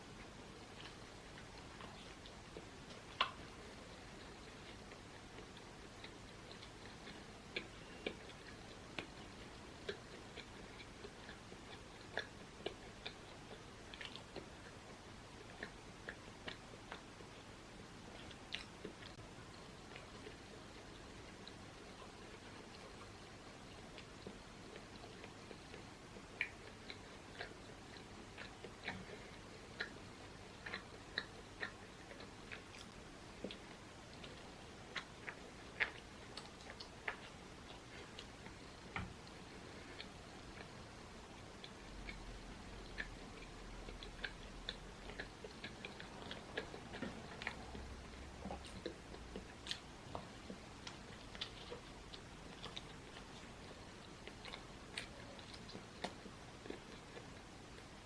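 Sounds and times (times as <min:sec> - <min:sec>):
wet mouth clicks and chewing: 0:00.1 - 0:58.0.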